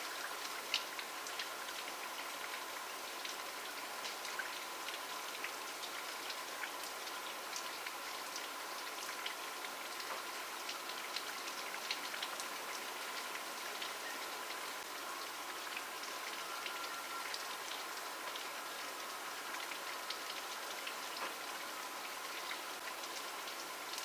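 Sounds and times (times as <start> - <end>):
rain falling: 0.0 - 24.0
raindrops ticking on surface: 0.0 - 24.0.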